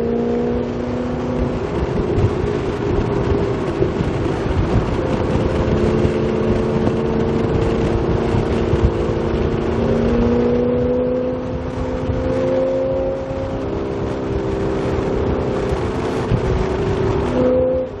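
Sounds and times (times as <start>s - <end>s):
car engine cruising drone: 0.0s - 18.0s.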